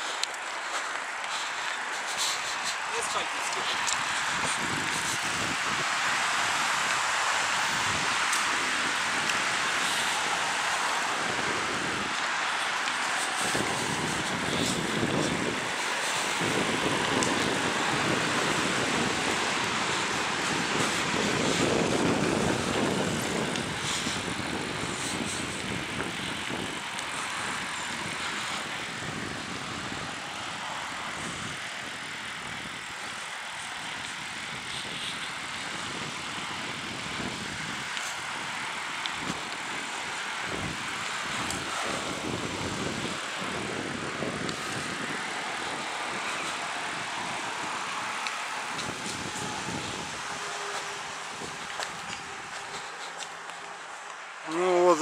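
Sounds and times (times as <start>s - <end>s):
bicycle tyres rumbling: 0.0s - 55.0s
wind on microphone: 0.0s - 55.0s.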